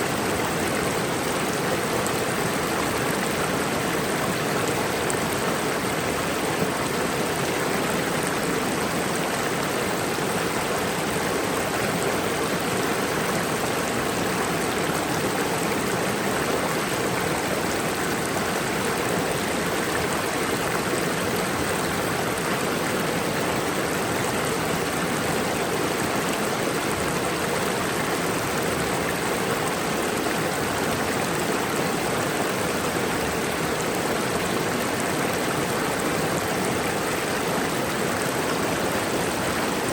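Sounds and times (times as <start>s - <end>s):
waterfall and rushing stream: 0.0s - 39.9s.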